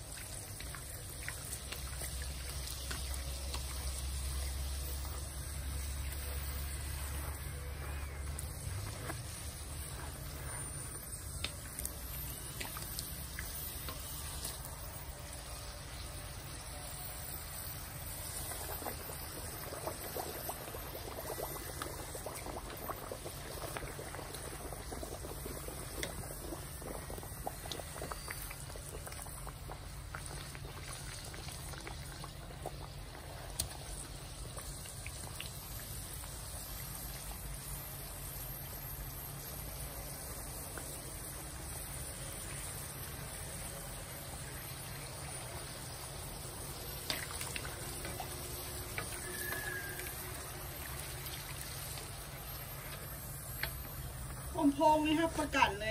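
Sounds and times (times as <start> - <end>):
dough sizzling in hot oil: 0.0 - 55.9.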